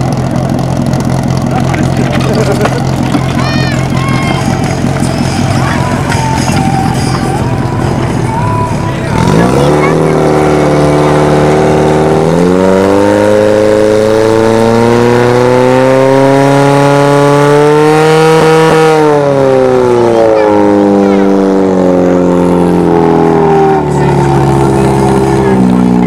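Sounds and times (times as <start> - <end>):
fire pump engine running hard: 0.0 - 26.0.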